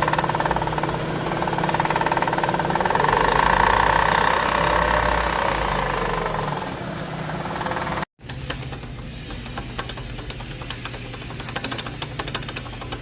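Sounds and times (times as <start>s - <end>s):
car engine idling with rattle: 0.0s - 13.0s.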